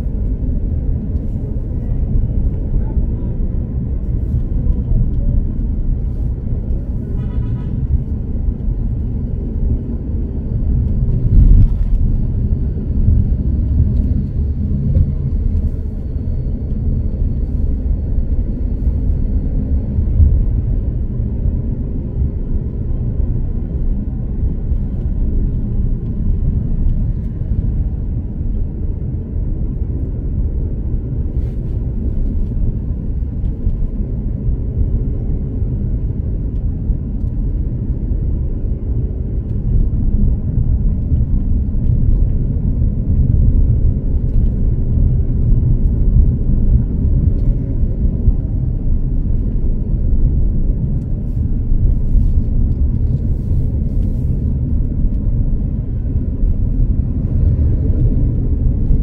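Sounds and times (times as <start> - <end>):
vehicle driving rumble: 0.0 - 59.0.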